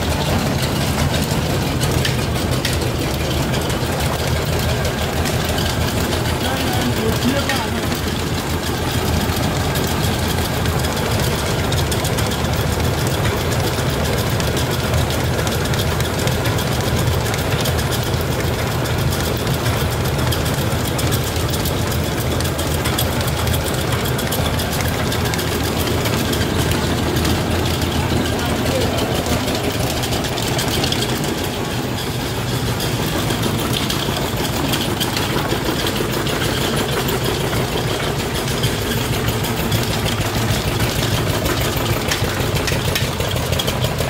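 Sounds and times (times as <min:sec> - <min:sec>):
diesel engine running: 0:00.0 - 0:44.0
rice milling machine: 0:00.0 - 0:44.0.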